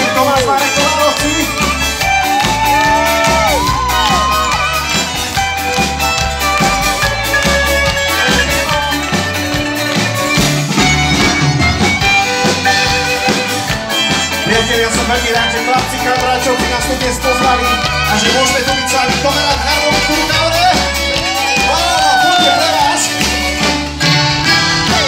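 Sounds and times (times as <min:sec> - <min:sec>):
accordion: 0:00.0 - 0:25.0
violins playing melody: 0:00.0 - 0:25.0.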